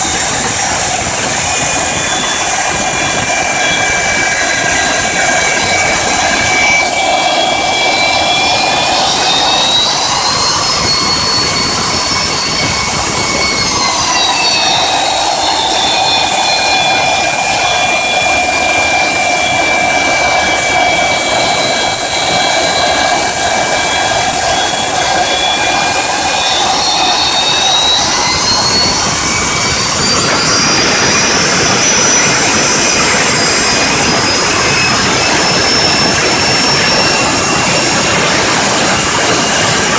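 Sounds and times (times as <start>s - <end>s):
jet engine roar with high whine: 0.0s - 39.9s.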